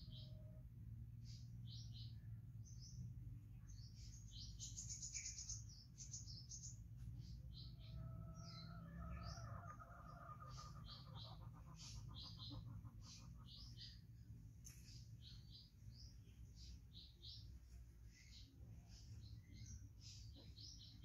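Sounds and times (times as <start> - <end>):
low steady hum: 0.0 - 21.0
small birds chirping: 0.0 - 21.0.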